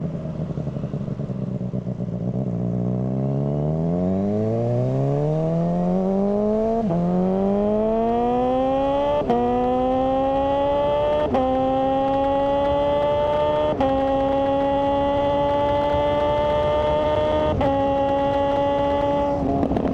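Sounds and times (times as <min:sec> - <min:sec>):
motorcycle engine accelerating: 0:00.0 - 0:19.9.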